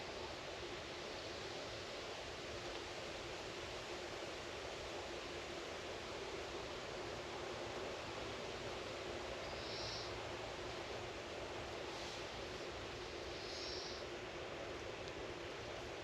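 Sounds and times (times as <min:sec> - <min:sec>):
soft outdoor hiss: 0:00.0 - 0:16.0.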